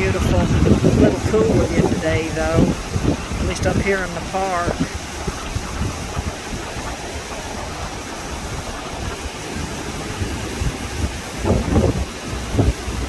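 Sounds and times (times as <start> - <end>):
river rushing: 0.0 - 13.0
wind rumble on microphone: 0.0 - 13.0.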